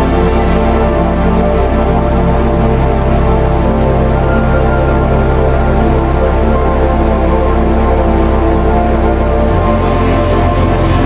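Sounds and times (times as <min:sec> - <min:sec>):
low steady drone: 0:00.0 - 0:11.0
sustained held chords: 0:00.0 - 0:11.0.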